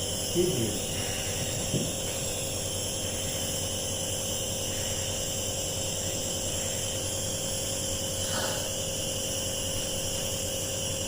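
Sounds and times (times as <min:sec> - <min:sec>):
nebuliser compressor humming: 0:00.0 - 0:11.0.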